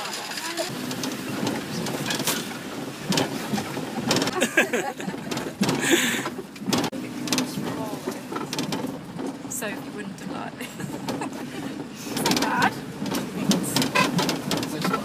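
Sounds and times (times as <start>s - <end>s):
vehicle engine hum: 0.0s - 15.0s
voices: 0.2s - 8.8s, 9.4s - 15.0s
bodywork knocks and rattles: 0.4s - 15.0s.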